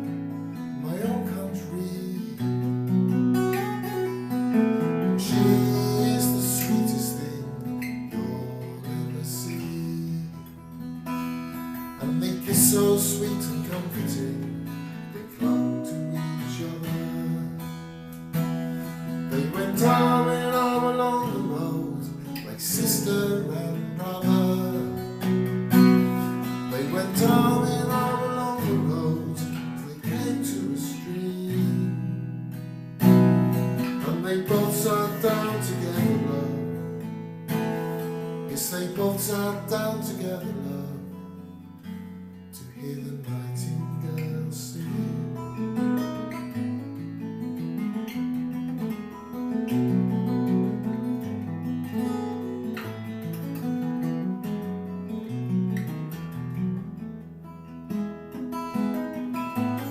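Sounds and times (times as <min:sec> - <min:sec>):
acoustic guitar folk tune: 0:00.0 - 0:59.9.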